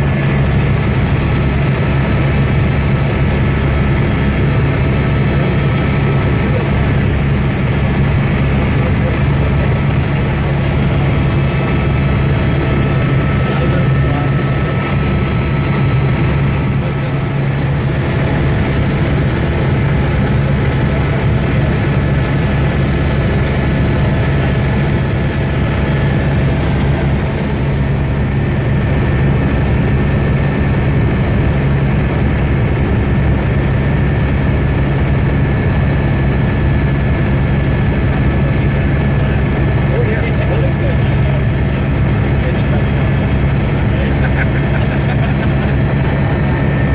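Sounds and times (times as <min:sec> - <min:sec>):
helicopter drone: 0:00.0 - 0:46.9.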